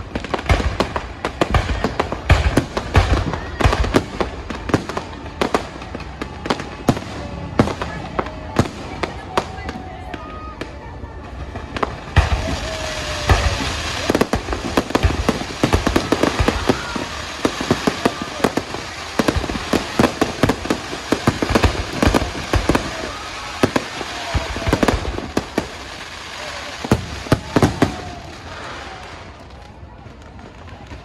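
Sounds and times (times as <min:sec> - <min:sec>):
fireworks bangs: 0:00.0 - 0:31.0
fireworks crackling: 0:00.0 - 0:31.0.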